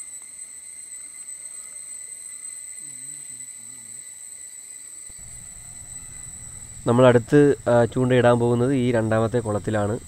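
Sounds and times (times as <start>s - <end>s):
insect chorus shrilling: 0.0s - 10.0s.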